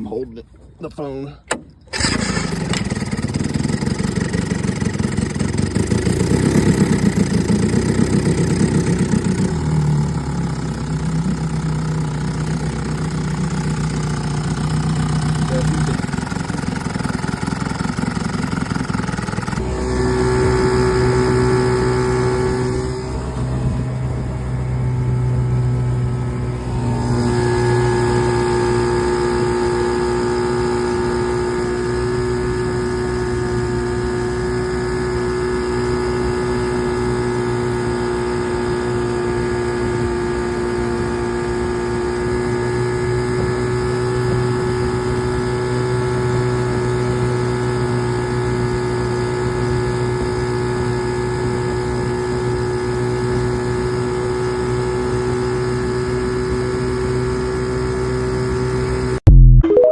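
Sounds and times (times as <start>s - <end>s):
small marine engine whining: 1.4s - 59.2s.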